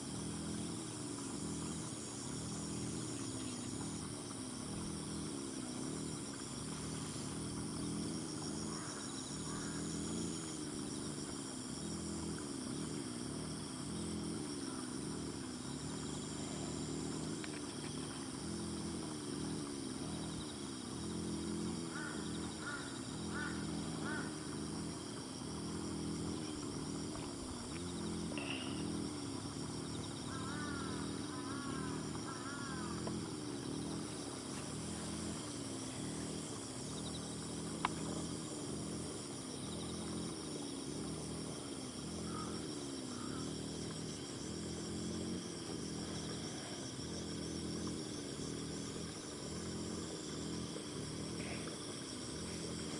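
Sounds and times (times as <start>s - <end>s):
high-pitched insect chorus: 0.0s - 52.9s.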